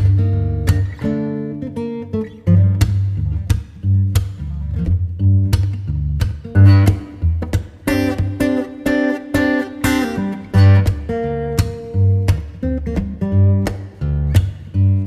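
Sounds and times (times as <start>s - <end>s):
steady bass line: 0.0s - 1.1s, 2.4s - 15.0s
acoustic guitar plucked and strummed: 0.0s - 15.0s.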